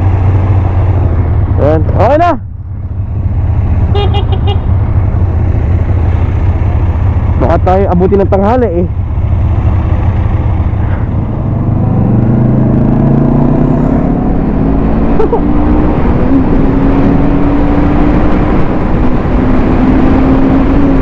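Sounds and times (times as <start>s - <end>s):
motorcycle engine accelerating: 0.0s - 21.0s
wind and road noise: 0.0s - 21.0s.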